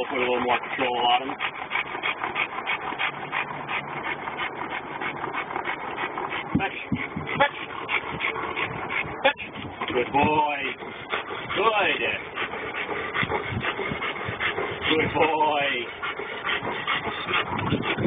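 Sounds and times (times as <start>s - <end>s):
dog panting fast: 0.0s - 18.0s.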